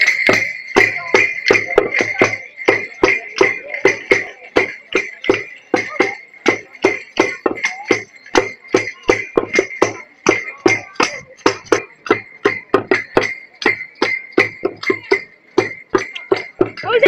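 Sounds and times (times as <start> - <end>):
parade percussion strikes: 0.0 - 17.0
steady ringing tone: 0.0 - 17.0.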